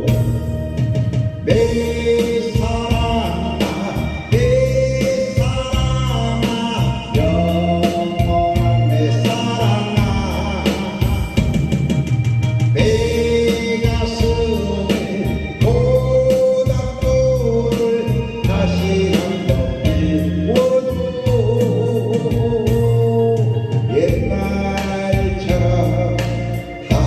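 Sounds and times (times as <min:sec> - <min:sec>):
backing track with drum beat: 0:00.0 - 0:27.0
person singing: 0:00.0 - 0:27.0.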